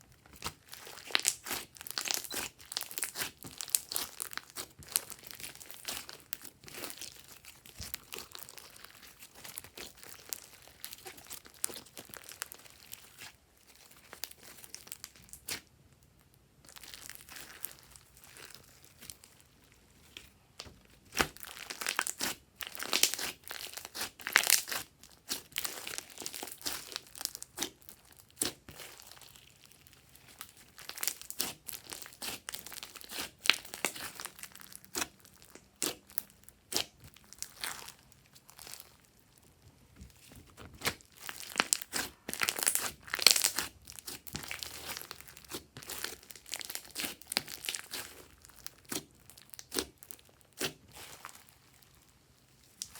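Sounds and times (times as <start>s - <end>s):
hands squishing slime: 0.2s - 15.8s, 16.6s - 52.9s.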